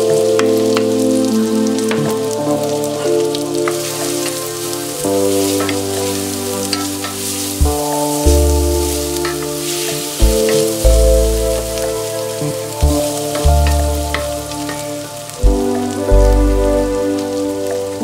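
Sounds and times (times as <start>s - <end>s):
bacon and onion sizzling in a pan: 0.0s - 16.1s
background music with chords and bass: 0.0s - 18.0s.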